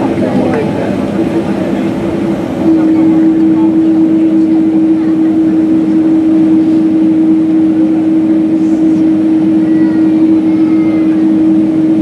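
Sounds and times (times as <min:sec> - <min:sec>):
jet engines humming in cabin: 0:00.0 - 0:12.0.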